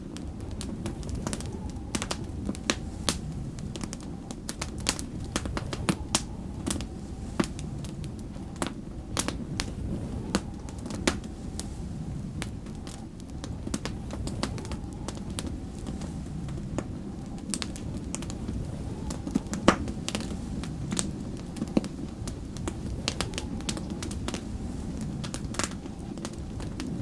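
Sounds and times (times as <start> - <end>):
low rumble: 0.0 - 27.0
wood fire crackling: 0.0 - 27.0.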